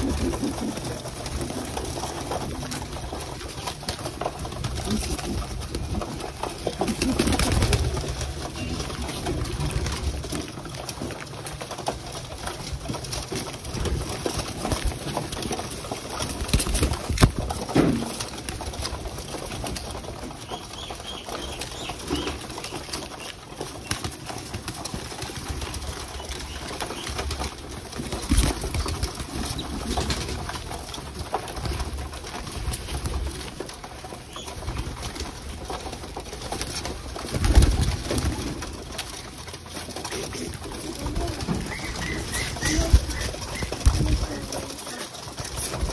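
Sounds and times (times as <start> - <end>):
pigeons cooing: 0.0 - 45.9
wings flapping: 0.0 - 45.9.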